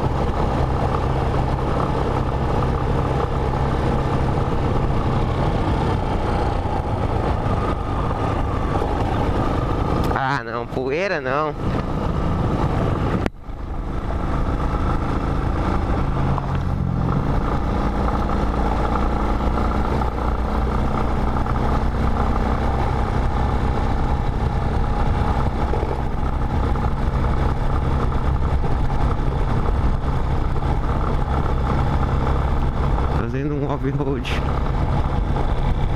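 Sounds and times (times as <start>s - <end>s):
motorcycle engine running: 0.0s - 35.9s
noisy rush: 0.0s - 35.9s.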